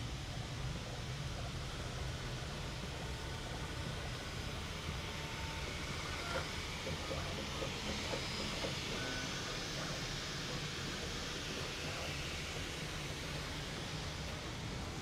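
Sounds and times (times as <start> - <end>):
fans and motors humming: 0.0 - 15.0.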